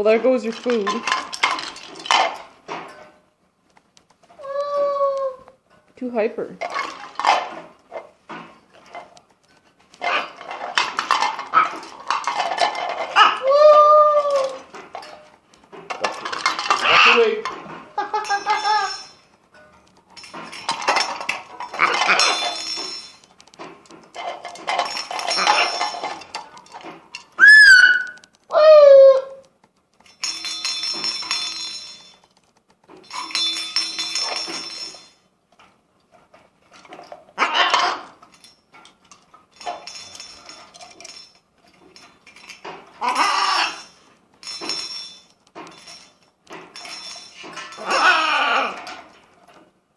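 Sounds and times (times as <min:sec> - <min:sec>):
metallic clinking and rattling: 0:00.0 - 0:04.8, 0:05.6 - 0:28.6, 0:29.2 - 0:49.9.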